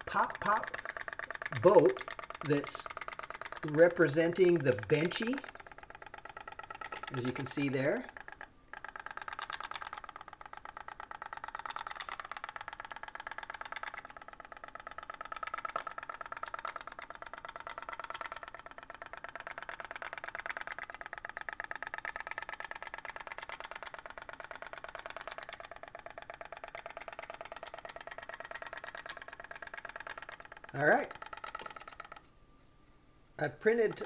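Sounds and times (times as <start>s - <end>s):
pop-pop boat fast ticking: 0.0s - 32.4s, 33.4s - 34.0s.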